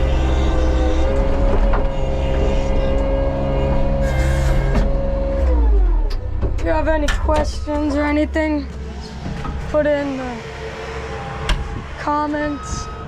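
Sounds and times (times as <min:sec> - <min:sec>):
diesel engine running with whine: 0:00.0 - 0:13.0.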